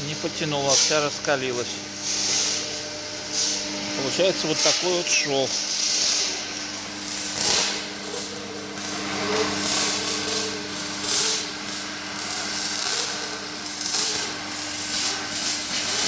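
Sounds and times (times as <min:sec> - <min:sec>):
low electrical hum: 0:00.0 - 0:16.0
welding arc crackling: 0:00.0 - 0:16.0.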